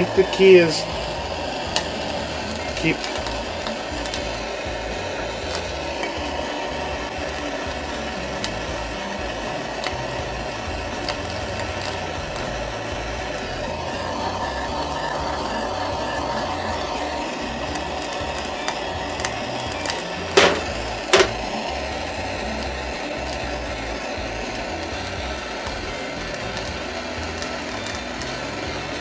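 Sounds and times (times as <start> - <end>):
blowtorch flame hissing: 0.0 - 29.0.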